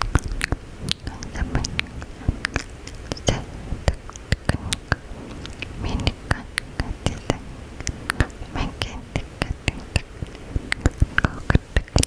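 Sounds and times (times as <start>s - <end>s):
soft whispering: 0.0s - 12.0s
wet mouth clicks and smacks: 0.0s - 12.0s.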